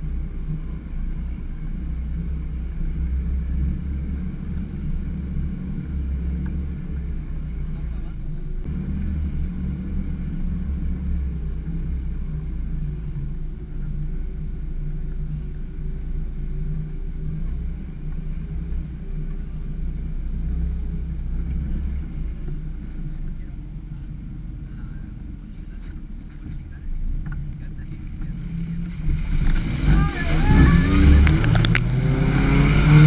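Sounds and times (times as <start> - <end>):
off-road vehicle engine under load: 0.0 - 33.0
tyre and trail noise: 0.0 - 33.0.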